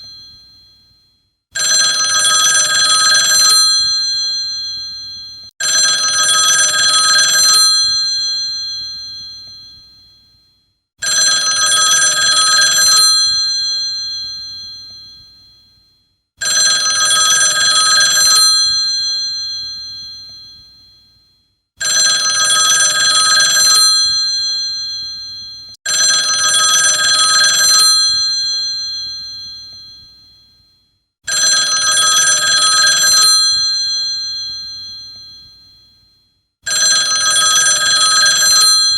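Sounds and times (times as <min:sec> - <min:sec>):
old telephone bell ringing: 0:01.6 - 0:10.0, 0:11.0 - 0:15.6, 0:16.4 - 0:21.0, 0:21.8 - 0:30.5, 0:31.3 - 0:36.0, 0:36.7 - 0:38.9.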